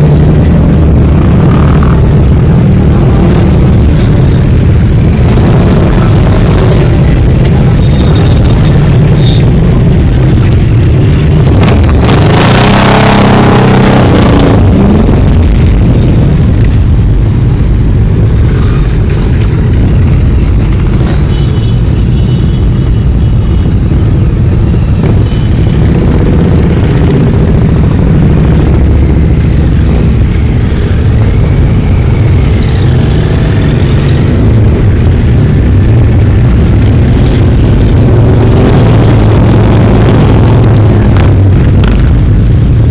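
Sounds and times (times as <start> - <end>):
motorcycle engines passing: 0.0 - 42.9.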